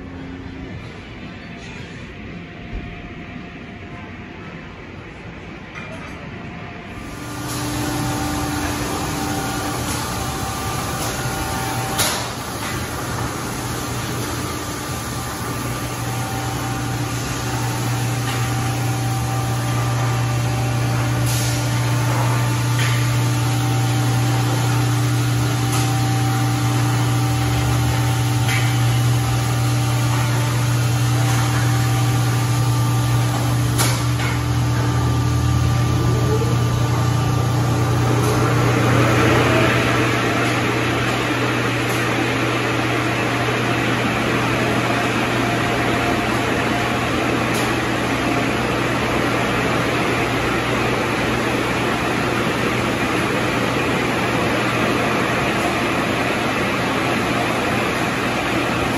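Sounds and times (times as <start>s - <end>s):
dryer blowers rushing air: 0.0s - 5.6s, 6.4s - 58.9s
machinery low hum: 0.0s - 58.9s.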